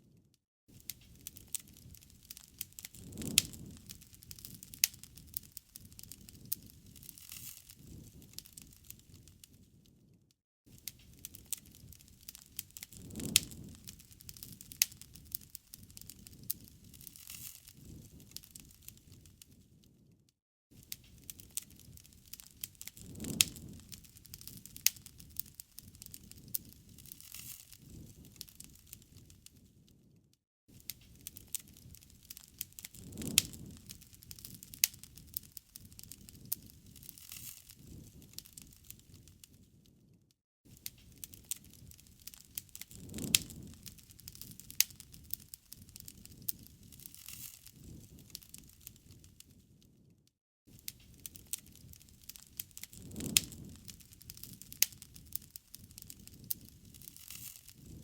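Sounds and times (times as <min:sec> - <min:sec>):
low rustle of flames: 0:00.0 - 0:58.0
campfire crackling and popping: 0:00.7 - 0:20.1, 0:20.8 - 0:50.0, 0:50.7 - 0:58.0.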